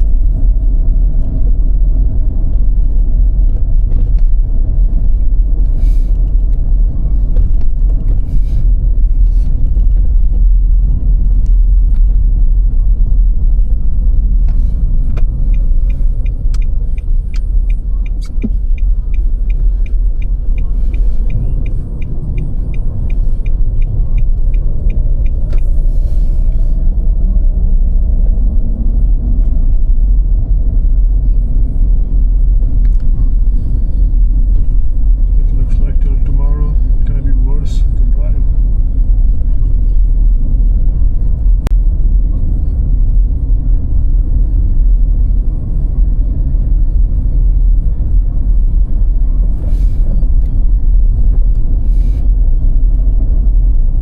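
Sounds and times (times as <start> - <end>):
tyres and engine rumble: 0.0 - 54.0.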